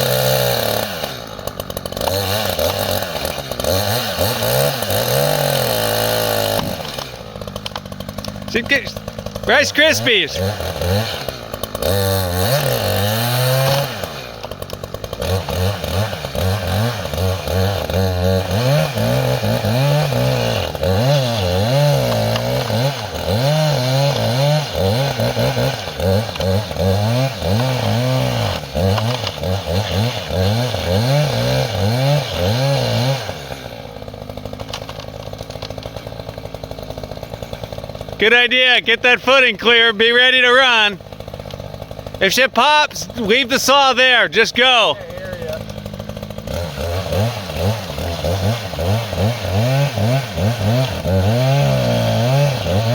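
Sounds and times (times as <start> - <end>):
chainsaw revving and bogging: 0.0 - 52.9.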